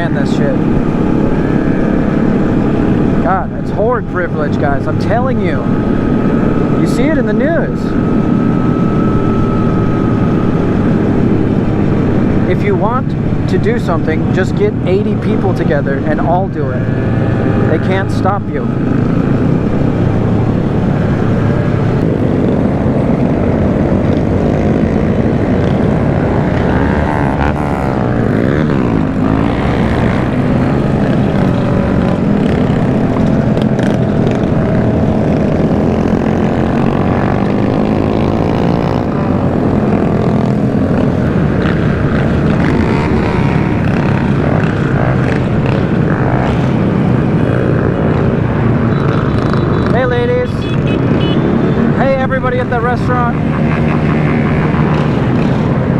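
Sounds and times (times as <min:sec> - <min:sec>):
road and traffic noise: 0:00.0 - 0:55.9.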